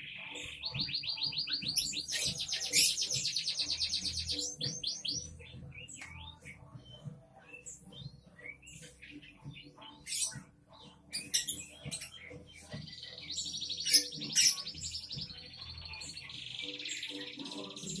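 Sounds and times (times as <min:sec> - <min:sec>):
bird trill: 0:00.0 - 0:18.0
songbirds chirping: 0:00.0 - 0:18.0.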